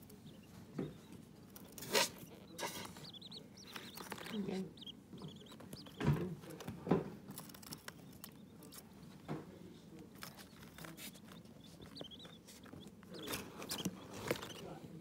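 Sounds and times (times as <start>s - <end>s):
light clicks of chick feet: 0.0s - 14.7s
chicks scratching on paper: 0.0s - 15.0s.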